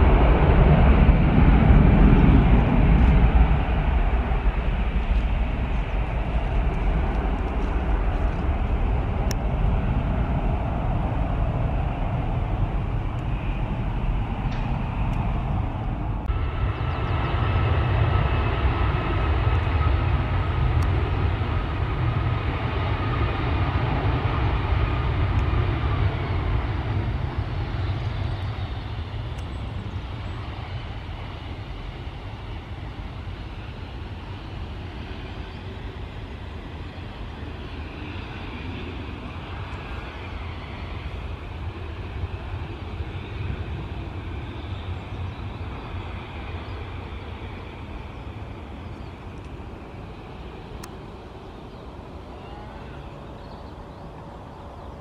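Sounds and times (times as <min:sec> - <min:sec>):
high engine whine: 0:00.0 - 0:55.0
jet engines rumbling: 0:00.0 - 0:55.0.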